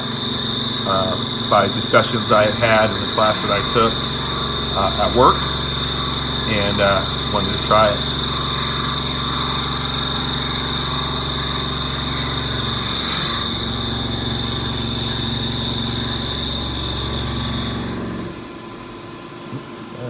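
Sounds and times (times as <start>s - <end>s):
machine hum: 0.0s - 20.0s
mill cutting with high whine: 0.0s - 20.0s.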